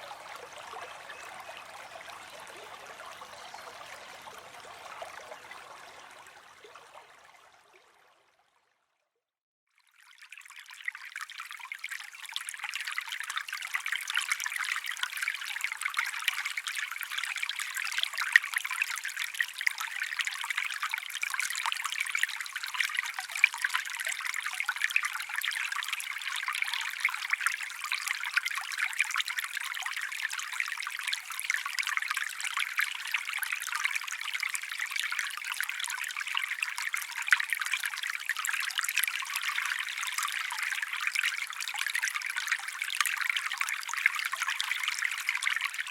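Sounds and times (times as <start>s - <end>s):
small stream trickling: 0.0s - 9.0s, 9.7s - 45.9s.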